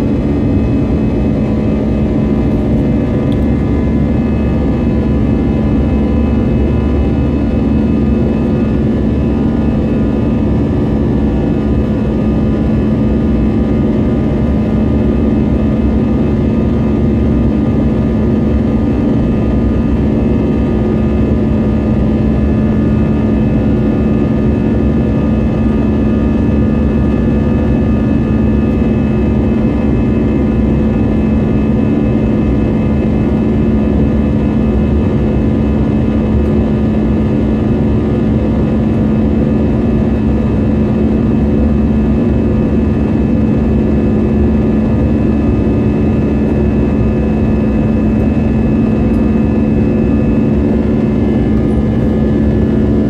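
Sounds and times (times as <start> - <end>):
jet engines heard inside cabin: 0.0 - 53.0.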